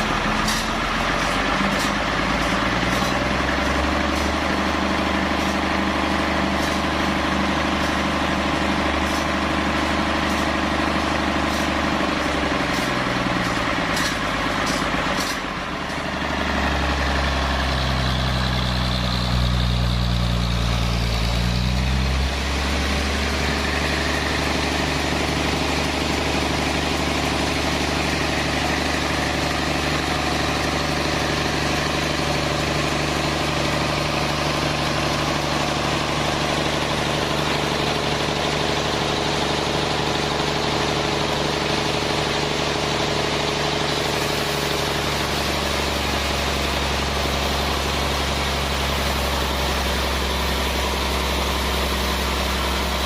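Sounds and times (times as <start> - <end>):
sawmill engine running: 0.0 - 53.0.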